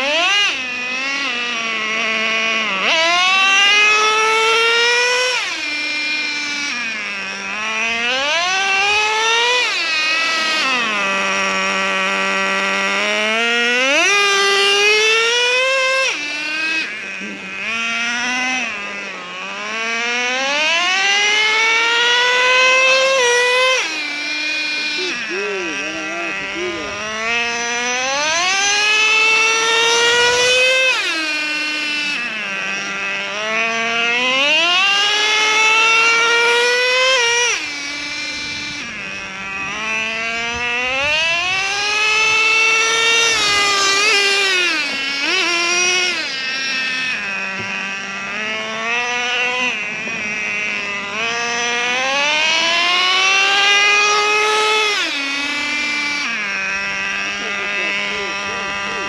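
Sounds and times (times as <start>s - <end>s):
nitro engine revving: 0.0s - 59.0s.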